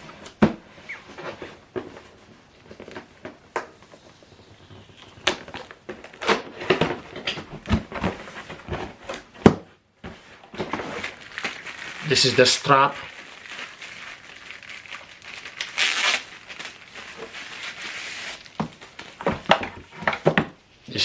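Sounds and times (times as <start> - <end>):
cardboard packaging handled: 0.1 - 20.4.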